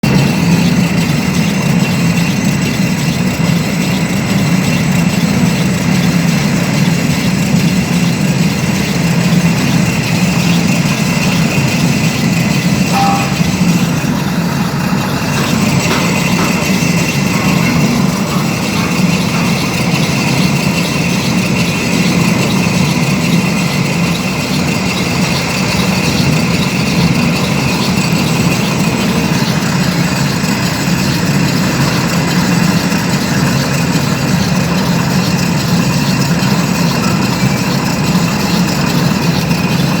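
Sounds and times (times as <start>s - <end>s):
high steady whine: 0.0s - 40.0s
metal lathe humming: 0.0s - 40.0s.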